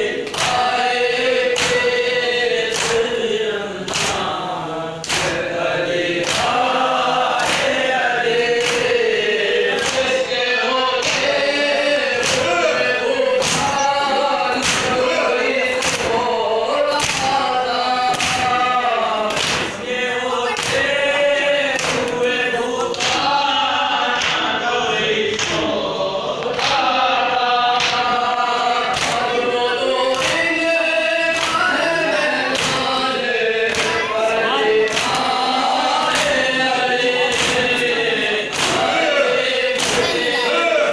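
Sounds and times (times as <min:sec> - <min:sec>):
men chanting lament: 0:00.0 - 0:40.9
person chanting through microphone: 0:00.0 - 0:40.9.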